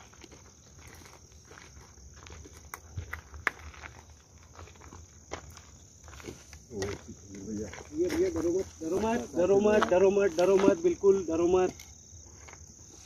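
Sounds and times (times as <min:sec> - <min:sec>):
crickets trilling: 0:00.0 - 0:13.0
footsteps crunching on forest ground: 0:00.0 - 0:13.0.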